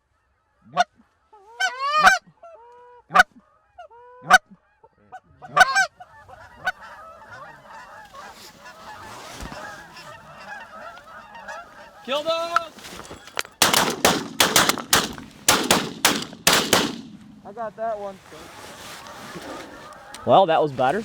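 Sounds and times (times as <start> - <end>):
flock of geese calling: 0.1 - 21.0
goose honking: 0.6 - 13.3, 16.5 - 21.0.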